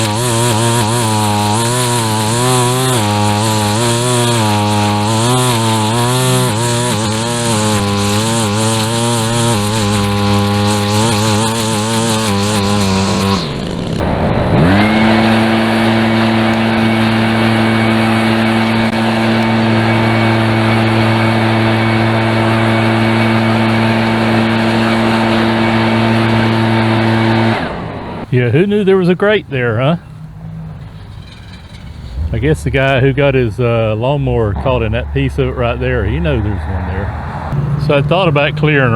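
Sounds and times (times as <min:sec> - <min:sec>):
small gasoline engine running: 0:00.0 - 0:29.3, 0:30.0 - 0:38.9.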